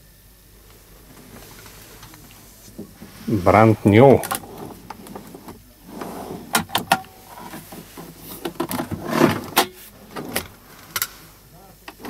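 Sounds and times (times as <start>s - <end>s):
plastic drawers sliding: 1.0s - 11.3s.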